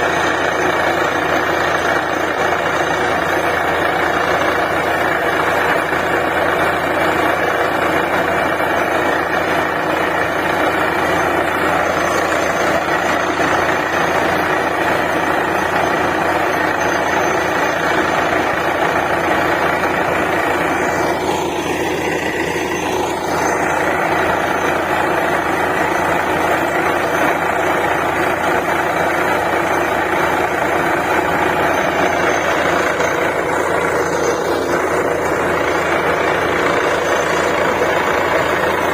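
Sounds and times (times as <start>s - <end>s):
drilling rig engine running: 0.0s - 38.9s.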